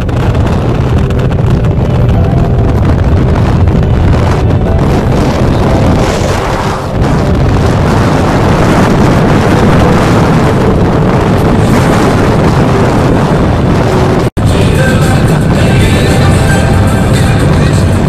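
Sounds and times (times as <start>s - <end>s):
heavy wind noise on microphone: 0.0s - 18.0s
motorcycle engine: 0.0s - 18.0s
road noise: 0.0s - 18.0s
music: 0.1s - 11.8s, 14.4s - 18.0s.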